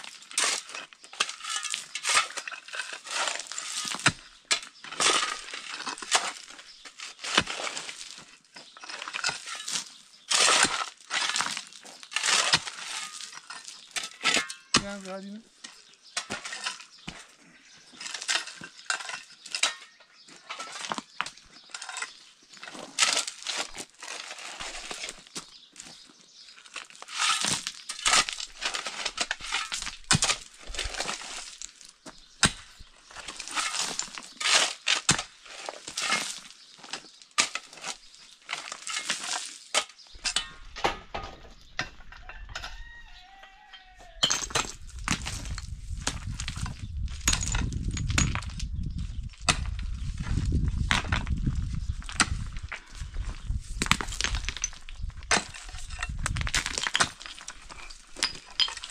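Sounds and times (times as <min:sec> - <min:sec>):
picks digging into stony ground: 0:00.1 - 0:58.9.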